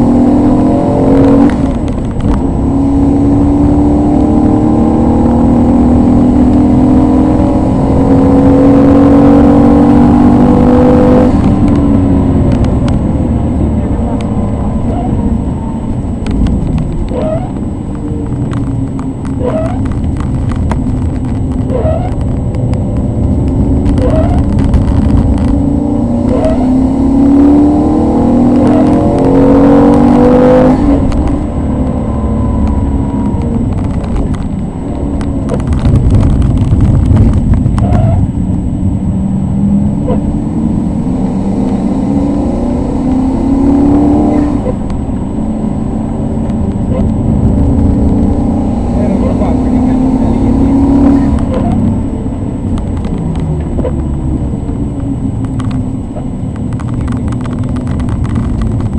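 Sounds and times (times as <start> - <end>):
car engine accelerating hard: 0.0 - 58.9.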